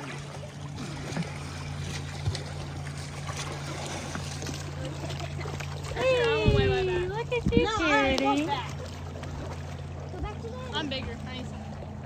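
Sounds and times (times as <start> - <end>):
motorboat engine humming: 0.0 - 12.0
water rushing around hull: 0.0 - 12.0.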